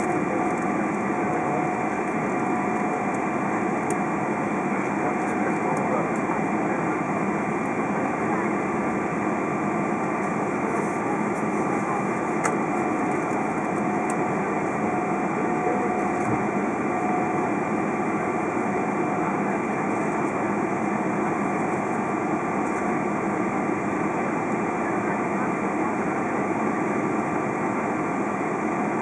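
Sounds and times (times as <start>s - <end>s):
jet engines running at low power: 0.0s - 29.0s.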